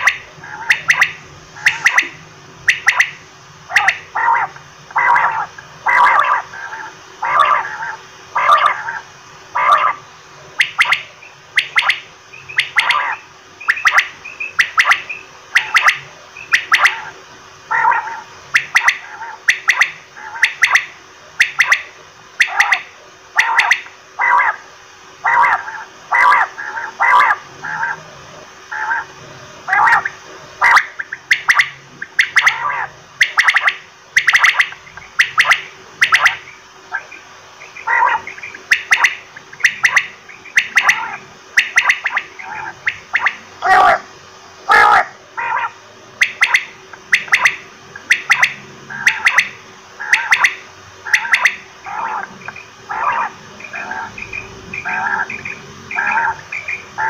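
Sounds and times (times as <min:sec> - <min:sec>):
quail calling: 0:00.0 - 0:10.0, 0:10.6 - 0:24.6, 0:25.2 - 0:28.1, 0:28.7 - 0:57.0
faint steady hum: 0:00.0 - 0:57.0.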